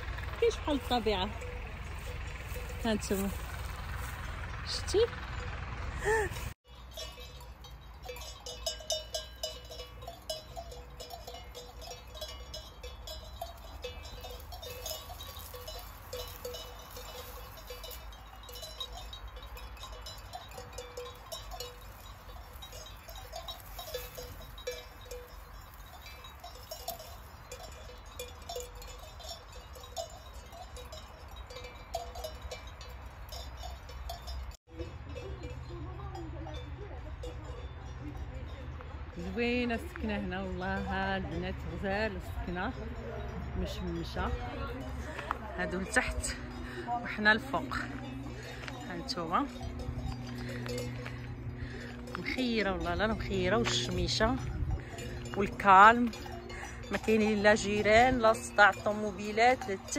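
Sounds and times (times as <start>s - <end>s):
sheep bells clinking: 0.0s - 59.9s.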